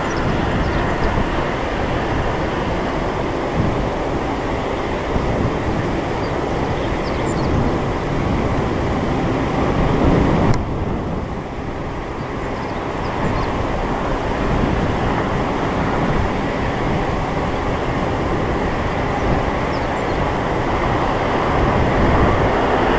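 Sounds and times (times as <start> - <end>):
jet engines running: 0.0 - 22.9.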